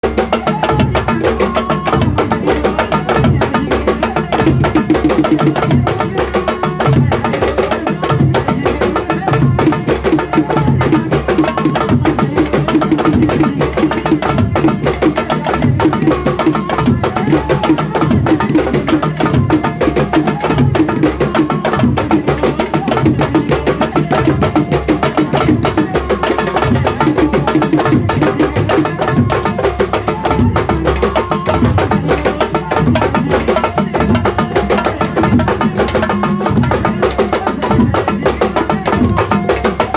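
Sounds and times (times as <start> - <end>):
fast drumming: 0.0 - 39.9.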